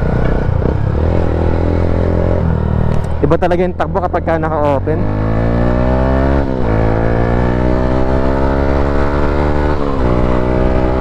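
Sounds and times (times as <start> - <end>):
motorcycle engine through open exhaust: 0.0 - 11.0.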